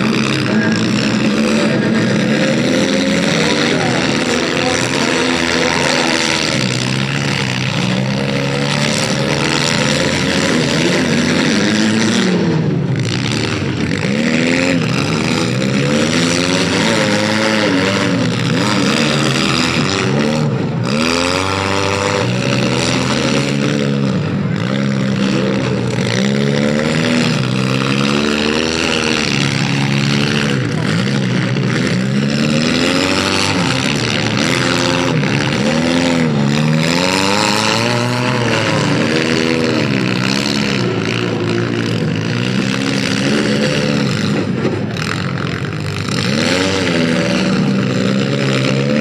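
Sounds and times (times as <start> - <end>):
car engines revving: 0.0 - 49.0.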